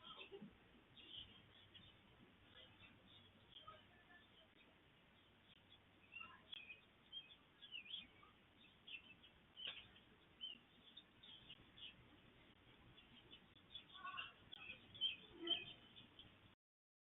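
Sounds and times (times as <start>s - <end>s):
faint bird chirps and calls: 0.0s - 16.6s.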